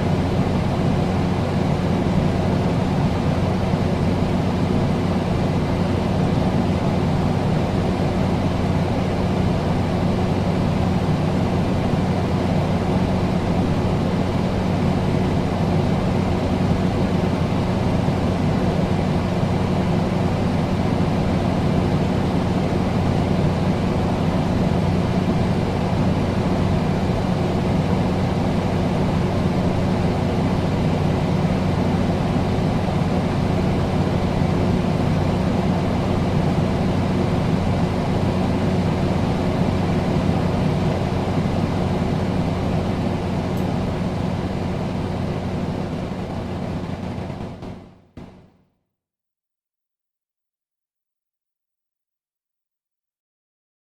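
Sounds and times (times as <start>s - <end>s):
air conditioner running: 0.0s - 48.4s.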